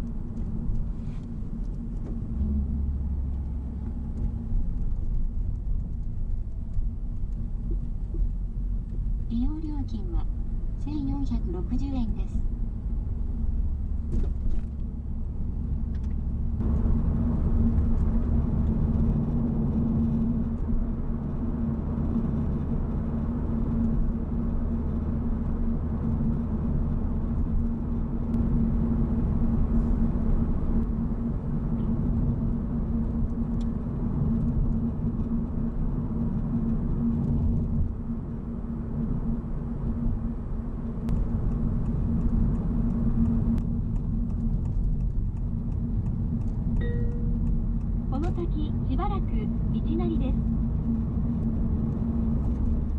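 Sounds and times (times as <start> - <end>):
car engine rumbling: 0.0 - 52.9
tyres humming on road: 0.0 - 52.9.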